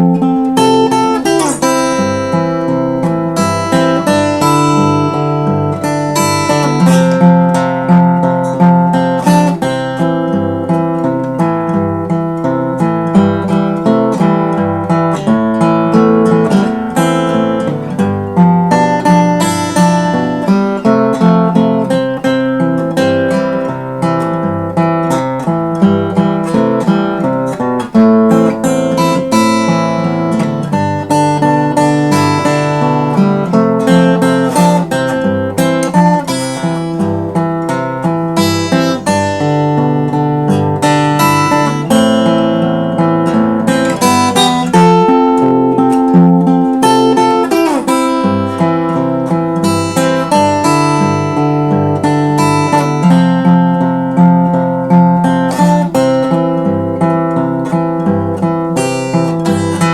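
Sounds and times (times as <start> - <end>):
fingerstyle acoustic guitar: 0.0 - 59.9.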